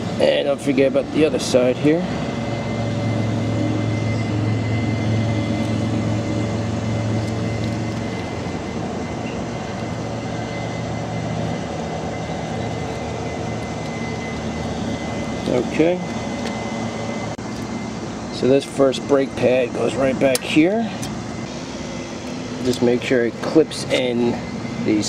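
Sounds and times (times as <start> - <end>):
faint high whine: 0.0 - 25.0
mechanical hum with deep drone: 0.0 - 25.0.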